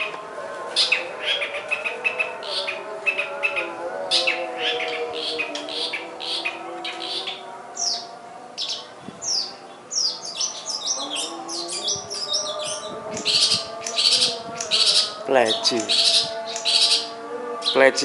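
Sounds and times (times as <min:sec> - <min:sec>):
shrike singing: 0:00.0 - 0:18.0.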